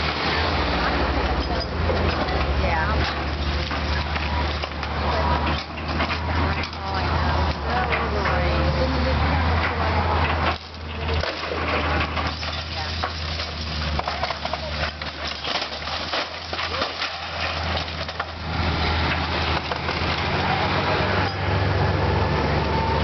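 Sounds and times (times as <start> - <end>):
wood splintering and debris crunching: 0.0 - 21.8
heavy machine engine running: 0.0 - 23.0.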